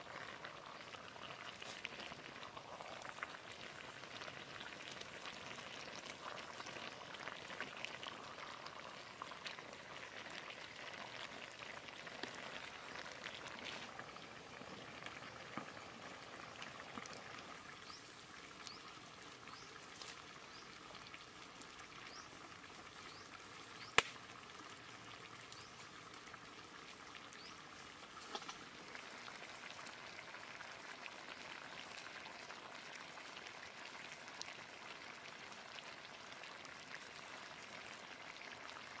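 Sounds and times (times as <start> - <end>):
curry bubbling and sizzling: 0.0 - 39.0.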